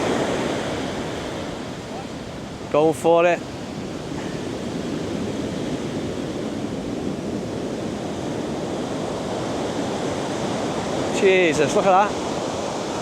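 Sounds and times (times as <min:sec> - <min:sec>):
wind on microphone: 0:00.0 - 0:02.7, 0:03.3 - 0:13.0
ocean surf breaking: 0:00.0 - 0:13.0.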